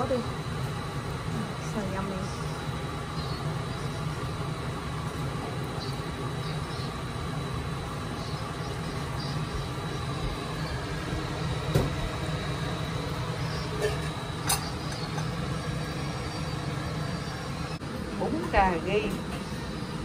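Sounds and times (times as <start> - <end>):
low machinery rumble: 0.0 - 20.0.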